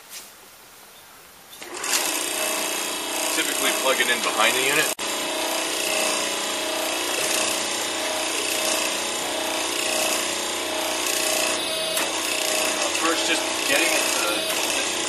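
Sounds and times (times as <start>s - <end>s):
electric motor and pump humming: 1.6s - 15.0s.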